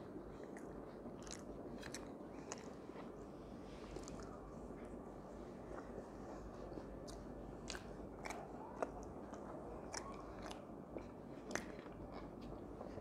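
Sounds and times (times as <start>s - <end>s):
person chewing food: 0.0s - 3.2s, 3.8s - 13.0s.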